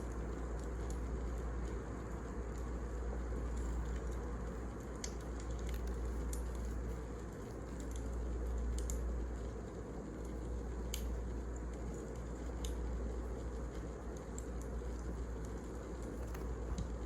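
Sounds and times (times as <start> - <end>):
wood fire burning: 0.0 - 17.0.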